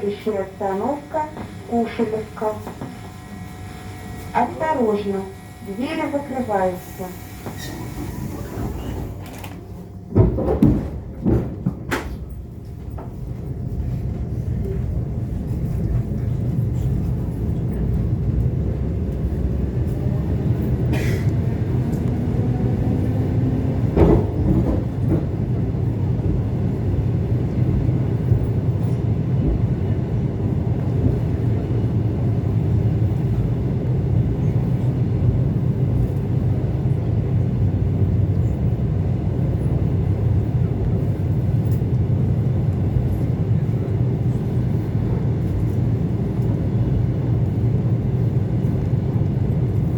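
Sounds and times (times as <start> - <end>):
train wheels rumbling: 0.0 - 49.9.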